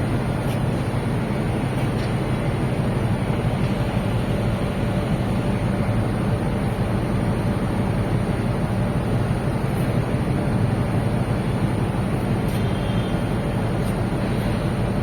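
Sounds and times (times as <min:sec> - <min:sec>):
ship engine low rumble: 0:00.0 - 0:15.0.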